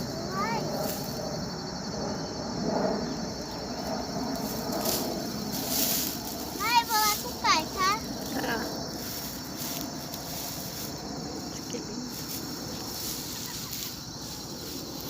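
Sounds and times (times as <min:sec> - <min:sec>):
insects chirping: 0:00.0 - 0:15.0
outdoor background hiss: 0:00.0 - 0:15.0.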